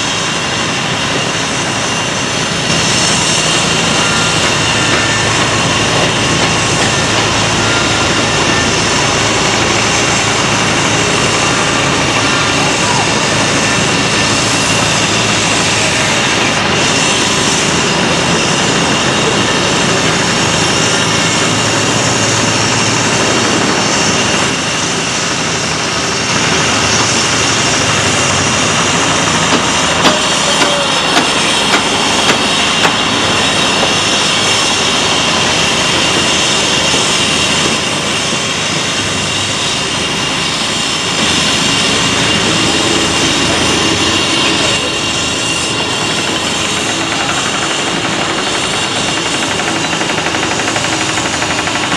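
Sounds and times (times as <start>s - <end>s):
diesel excavator engines: 0.0s - 51.9s
steady high whine: 0.0s - 51.9s.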